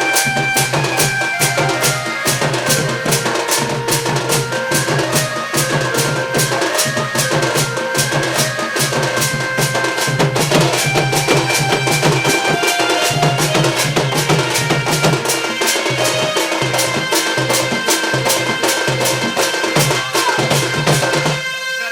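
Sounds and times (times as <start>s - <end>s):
fast steady drumming: 0.0s - 21.5s
held melodic instrument line: 0.0s - 21.9s.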